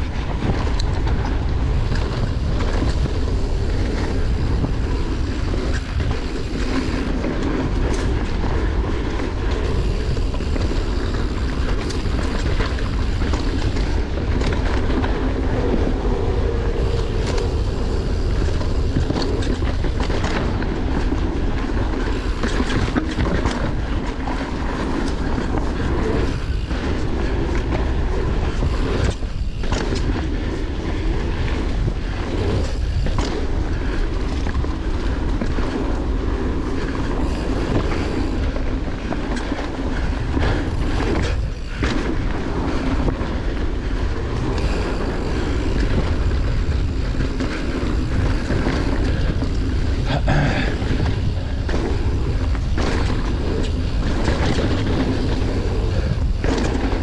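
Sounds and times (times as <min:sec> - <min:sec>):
bike rattles: 0:00.0 - 0:57.0
wind rumbling on microphone: 0:00.0 - 0:57.0.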